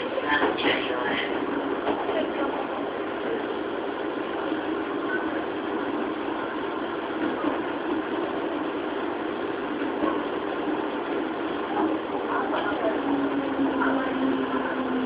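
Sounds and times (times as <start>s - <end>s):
train interior running noise: 0.0s - 15.0s.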